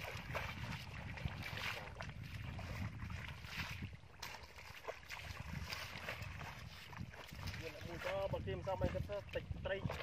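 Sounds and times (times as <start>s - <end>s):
footsteps squelching through mud: 0.0s - 10.0s
wind rumble on microphone: 0.0s - 10.0s.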